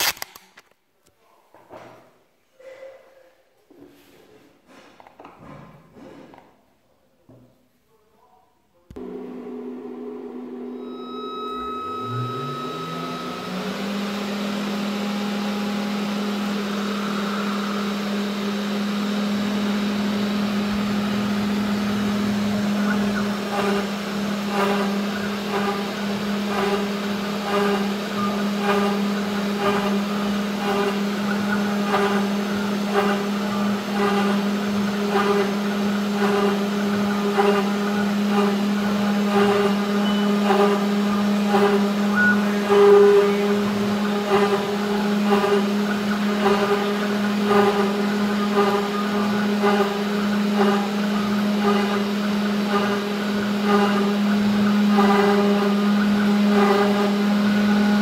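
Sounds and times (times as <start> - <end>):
router spindle humming: 8.9 - 58.0
bit engraving wood: 10.8 - 58.0.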